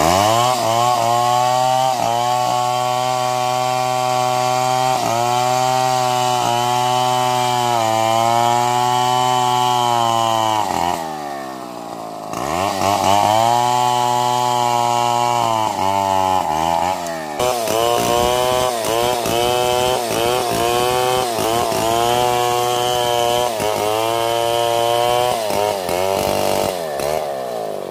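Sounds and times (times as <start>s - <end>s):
chainsaw cutting log: 0.0s - 27.9s.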